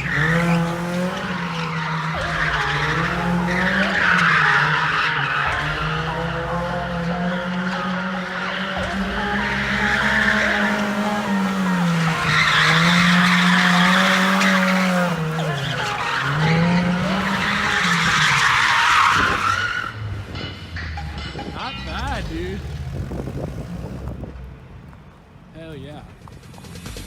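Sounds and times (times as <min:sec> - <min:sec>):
tyres screeching: 0:00.0 - 0:25.0
car engine at high revs: 0:00.0 - 0:25.4.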